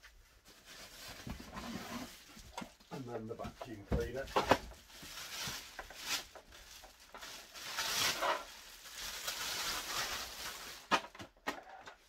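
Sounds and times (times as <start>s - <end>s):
plastic bag crinkling and rustling: 0.0s - 12.0s.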